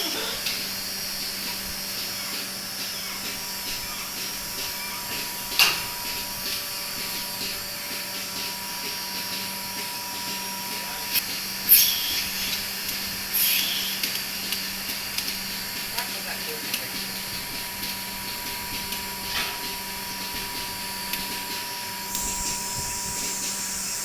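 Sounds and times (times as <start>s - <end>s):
hissing bursts: 0.0s - 24.0s
vacuum pump humming: 0.0s - 24.0s.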